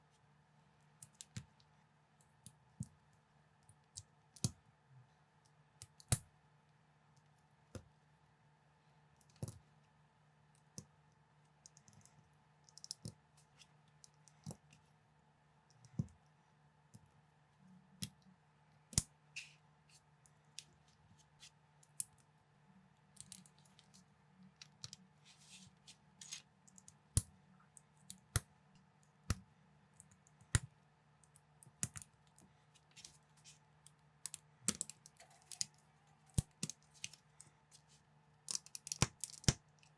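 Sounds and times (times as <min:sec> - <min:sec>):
faint low hum: 0:00.0 - 0:38.6.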